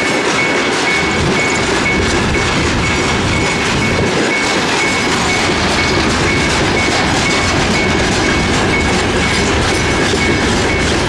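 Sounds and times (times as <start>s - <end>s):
crossing warning signal beeping: 0.0s - 11.0s
freight train rail noise: 0.0s - 11.0s.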